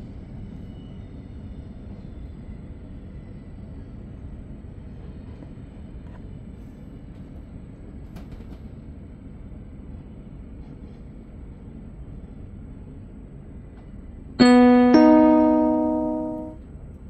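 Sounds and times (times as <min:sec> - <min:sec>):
train wheels rumbling on rails: 0:00.0 - 0:14.2.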